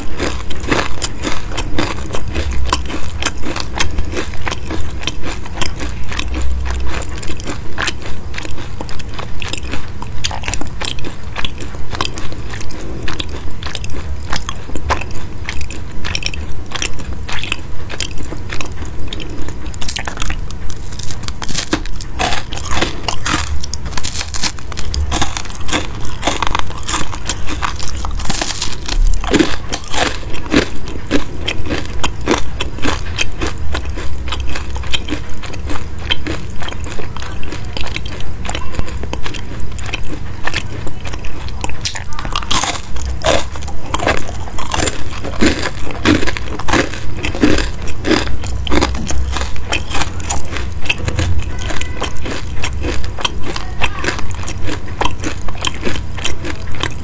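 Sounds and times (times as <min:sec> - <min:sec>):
crunching and chewing crisp snacks: 0:00.0 - 0:57.0.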